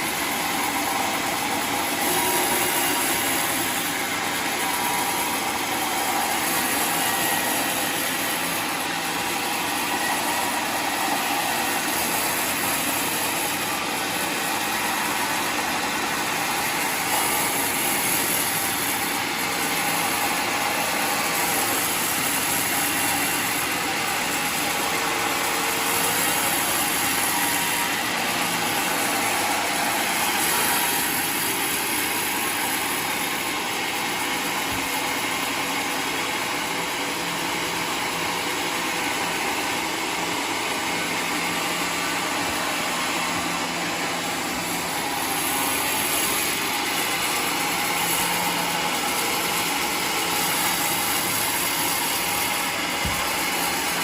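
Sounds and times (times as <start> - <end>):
sawmill engine and saw droning: 0.0 - 54.0.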